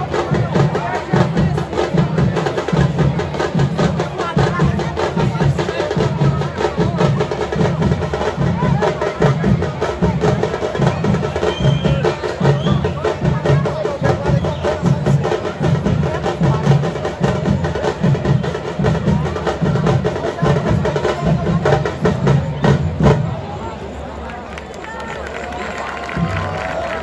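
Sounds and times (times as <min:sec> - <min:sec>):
rapid snare drum strokes: 0:00.0 - 0:23.3
voices: 0:00.0 - 0:27.0.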